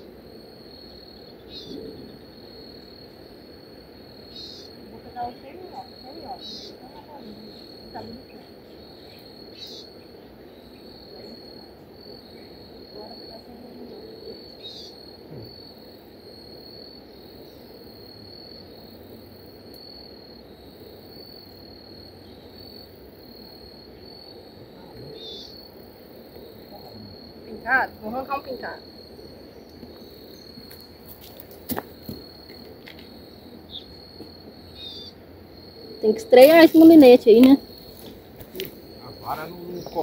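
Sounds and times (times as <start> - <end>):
insects chirring trill: 0.0 - 40.0
outdoor background hiss: 0.0 - 40.0.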